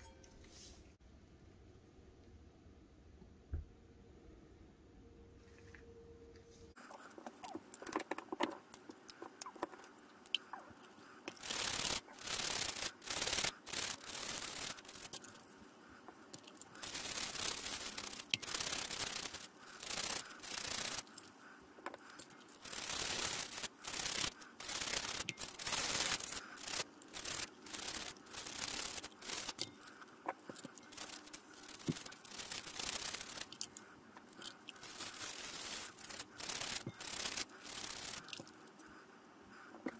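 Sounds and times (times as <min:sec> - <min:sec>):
toothbrush scrubbing in water: 0:06.8 - 0:39.0.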